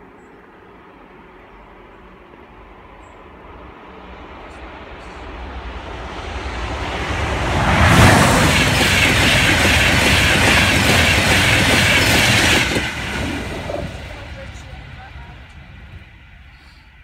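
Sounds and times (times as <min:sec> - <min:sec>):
train passing on rails: 0:00.0 - 0:17.0.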